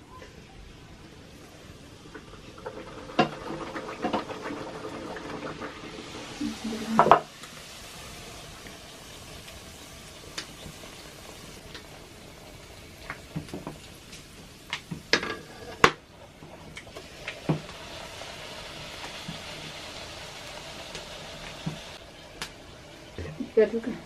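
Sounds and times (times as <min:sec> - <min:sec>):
dough sizzling in a wok: 0:00.0 - 0:24.0.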